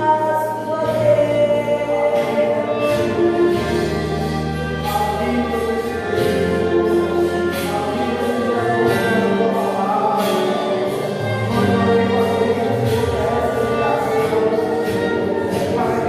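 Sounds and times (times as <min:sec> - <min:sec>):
choir singing a hymn: 0:00.0 - 0:16.0
sustained instrumental chords: 0:00.0 - 0:16.0.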